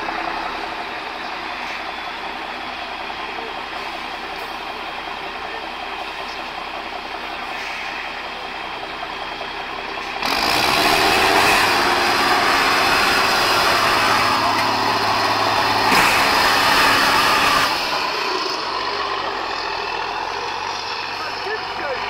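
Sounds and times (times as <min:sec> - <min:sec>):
diesel truck engine revving: 0:00.0 - 0:22.0.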